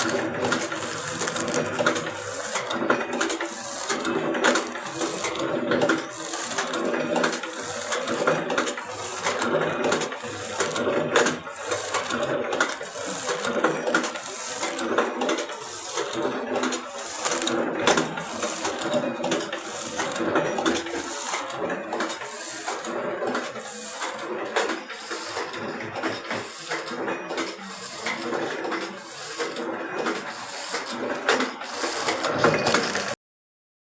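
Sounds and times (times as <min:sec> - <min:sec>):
packing machine clattering: 0:00.0 - 0:33.2.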